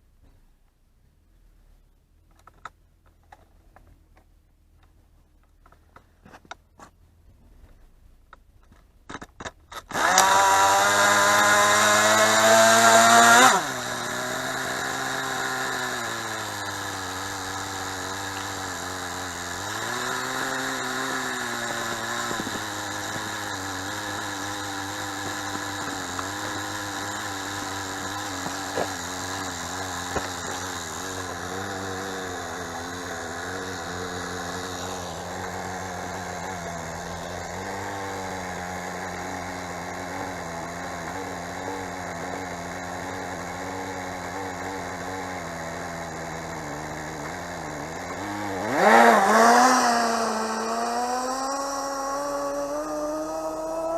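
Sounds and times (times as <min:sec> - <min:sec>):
small nitro engine revving: 0:09.7 - 0:53.9.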